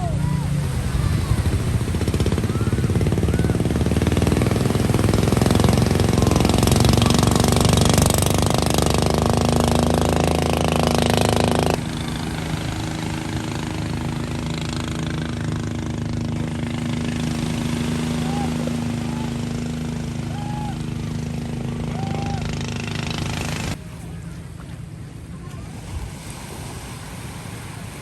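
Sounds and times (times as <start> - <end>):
vehicle engine with pulsing rattle: 0.0 - 25.7.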